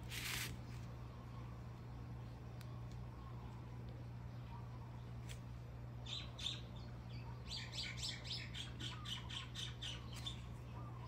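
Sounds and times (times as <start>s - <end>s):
steady low hum: 0.0s - 11.0s
songbird chirping: 0.8s - 11.0s.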